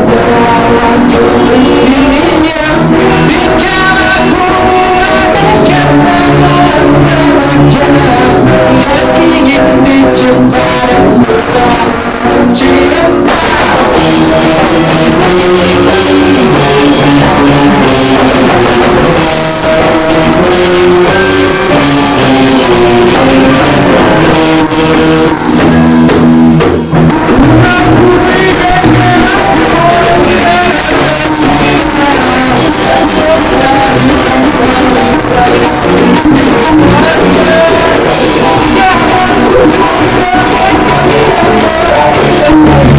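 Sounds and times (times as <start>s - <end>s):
drum kit: 0.0s - 42.9s
guitar: 0.0s - 42.9s
person singing: 0.0s - 42.9s.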